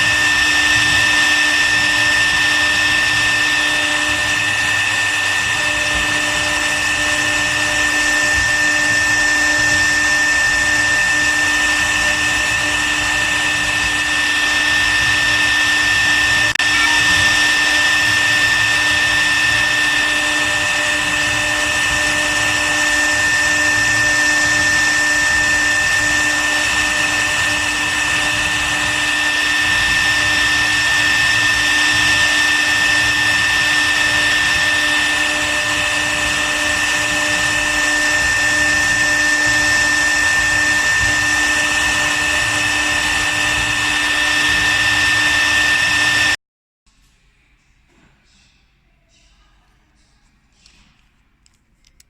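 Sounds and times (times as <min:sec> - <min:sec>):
wood router spindle whining: 0:00.0 - 0:46.4.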